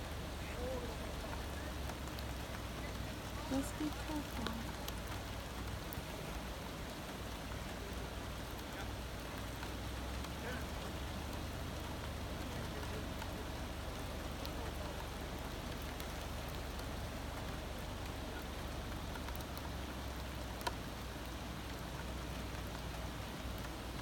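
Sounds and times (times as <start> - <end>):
heavy rain on car roof: 0.0 - 24.0.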